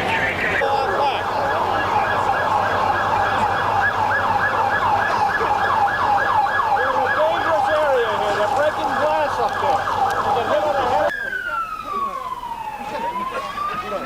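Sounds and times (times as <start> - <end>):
siren fast yelp: 0.1 - 14.0
lower wavering siren: 0.3 - 14.0.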